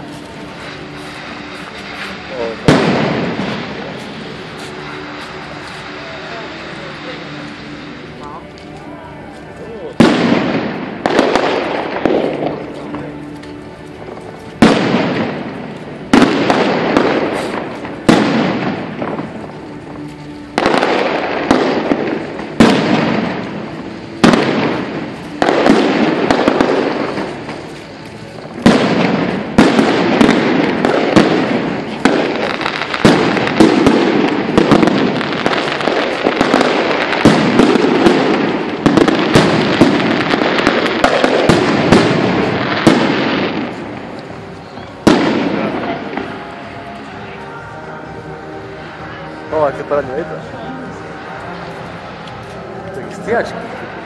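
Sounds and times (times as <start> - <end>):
fireworks bangs: 0.0 - 54.0
fireworks crackling: 0.0 - 54.0.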